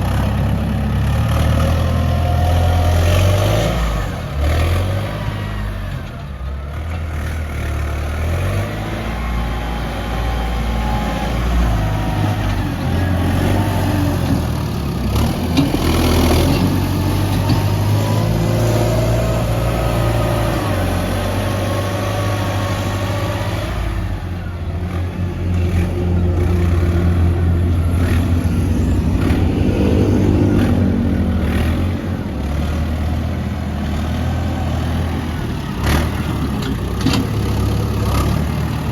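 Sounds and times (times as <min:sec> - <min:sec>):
heavy diesel machinery revving: 0:00.0 - 0:38.9.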